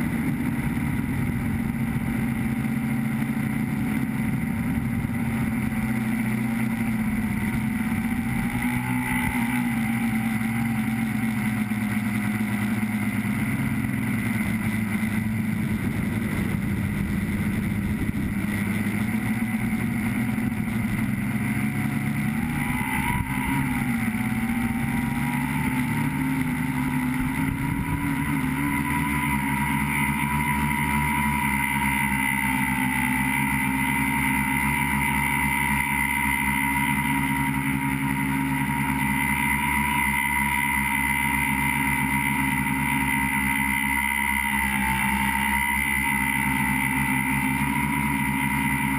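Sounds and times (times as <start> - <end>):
electric motors and propellers buzzing: 0.0 - 48.9.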